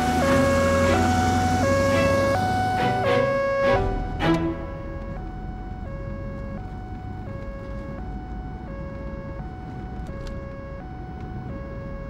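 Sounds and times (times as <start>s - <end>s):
ambulance siren two-tone: 0.0s - 12.0s
low vehicle rumble: 0.0s - 12.0s.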